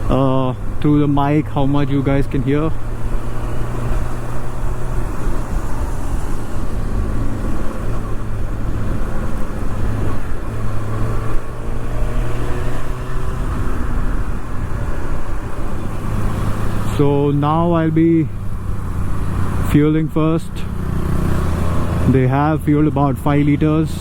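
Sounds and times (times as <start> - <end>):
road and traffic noise: 0.0 - 24.0.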